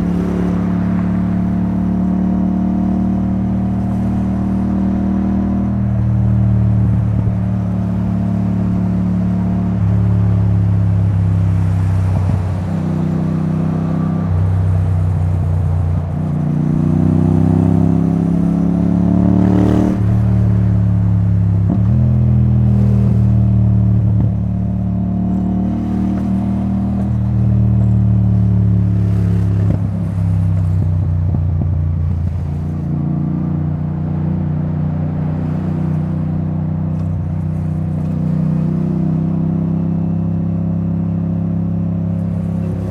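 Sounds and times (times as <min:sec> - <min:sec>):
motorcycle engine at speed: 0:00.0 - 0:42.9.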